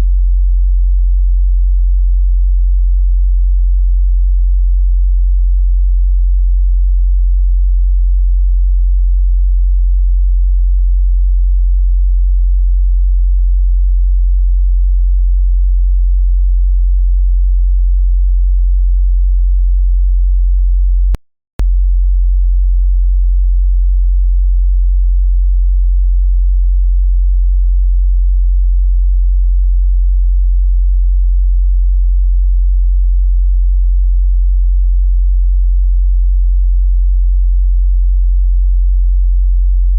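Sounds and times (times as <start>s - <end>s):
low bass test tone: 0.0s - 39.9s.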